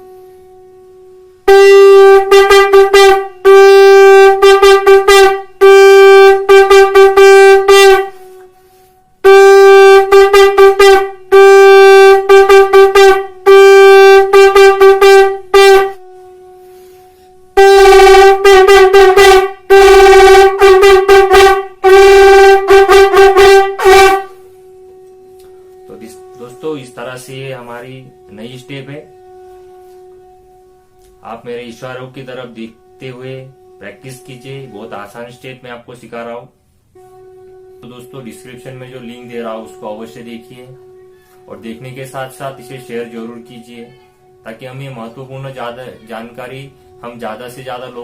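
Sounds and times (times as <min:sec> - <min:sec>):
faint steady tone: 0:00.0 - 0:20.6, 0:21.6 - 0:48.0
conch shell blown in pulses: 0:00.0 - 0:48.0.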